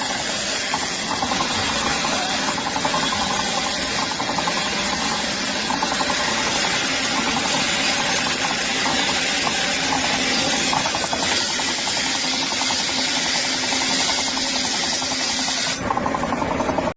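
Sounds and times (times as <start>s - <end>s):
machine rattling clatter: 0.0s - 16.9s.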